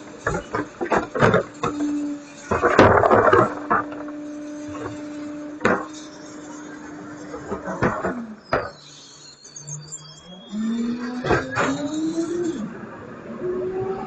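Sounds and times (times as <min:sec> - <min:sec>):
garbage truck humming: 0:00.0 - 0:08.8, 0:09.7 - 0:14.0.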